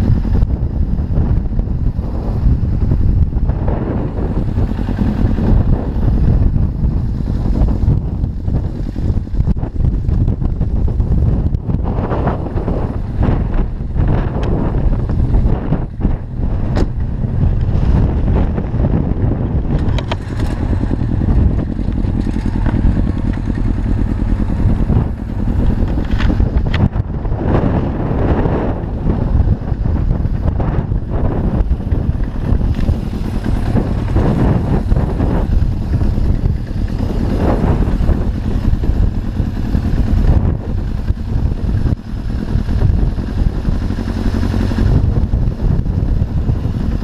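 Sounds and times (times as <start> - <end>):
motorcycle engine at low revs: 0.0 - 47.0
wind buffeting microphone: 0.0 - 47.0.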